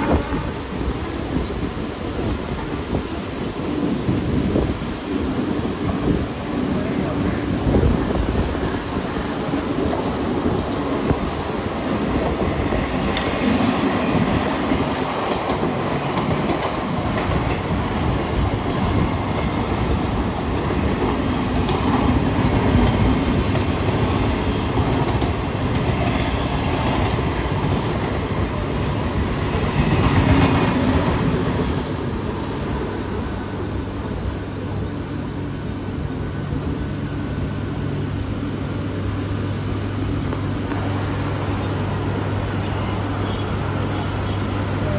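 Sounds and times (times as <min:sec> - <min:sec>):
train wheels rumbling on track: 0:00.0 - 0:44.9.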